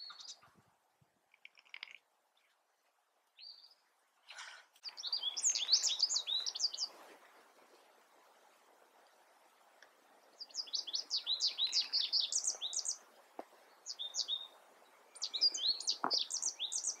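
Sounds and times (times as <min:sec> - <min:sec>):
songbird chirping: 0:00.0 - 0:00.7, 0:01.3 - 0:17.0.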